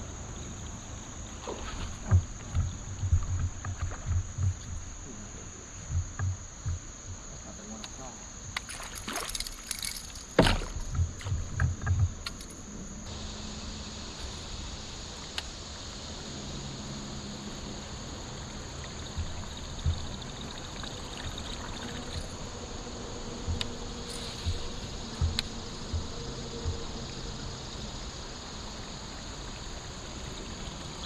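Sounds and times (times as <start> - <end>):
faint water noise: 0.0 - 31.0
high insect buzz: 0.0 - 31.0.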